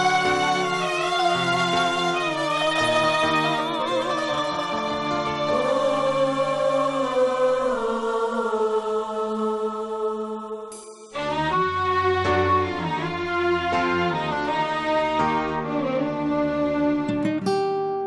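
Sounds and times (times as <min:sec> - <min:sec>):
slow orchestral music: 0:00.0 - 0:17.5.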